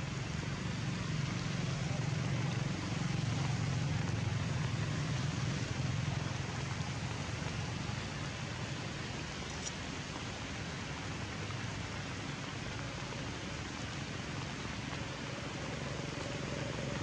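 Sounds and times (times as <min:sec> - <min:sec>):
rain falling on leaves: 0:00.0 - 0:17.0.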